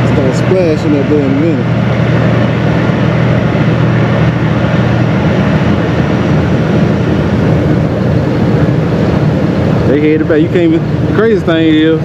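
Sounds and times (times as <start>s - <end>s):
constant rushing noise: 0.0s - 12.0s
low drone of ship engines: 0.0s - 12.0s.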